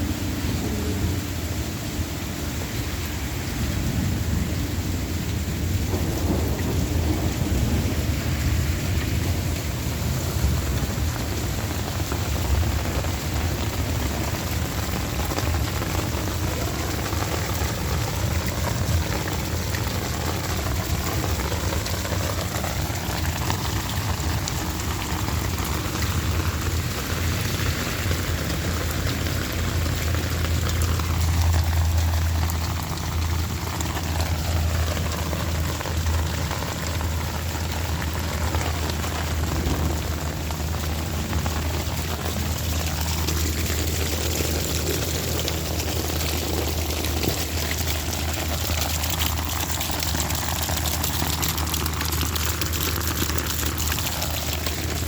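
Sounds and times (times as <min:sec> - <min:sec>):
heavy rain pouring: 0:00.0 - 0:55.0
low rumble of thunder: 0:00.0 - 0:55.0.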